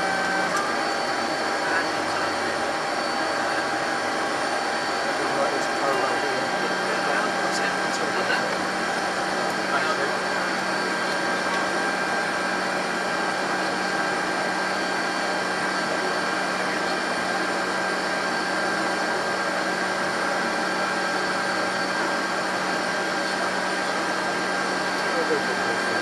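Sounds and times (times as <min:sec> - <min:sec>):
aircraft machinery hum: 0:00.0 - 0:26.0
constant high whine: 0:00.0 - 0:26.0.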